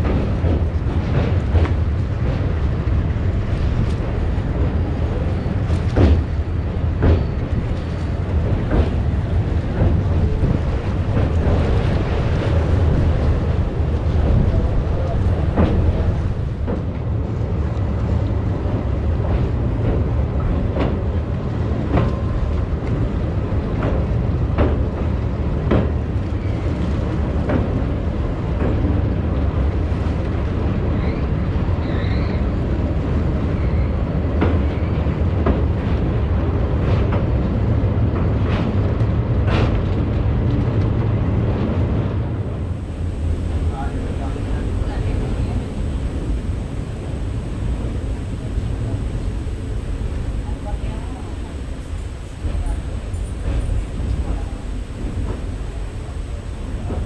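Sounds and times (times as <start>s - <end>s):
wheels clacking over rail joints: 0.0s - 30.7s, 33.3s - 57.0s
train rumbling: 0.0s - 57.0s
wind buffeting microphone: 0.0s - 57.0s.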